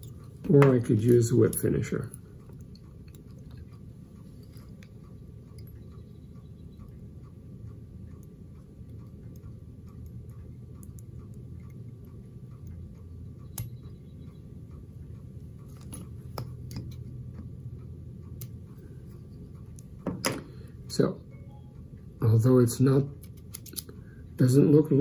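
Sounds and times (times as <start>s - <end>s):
faint even ticking: 0.0s - 23.2s
steady low hum: 0.0s - 25.0s.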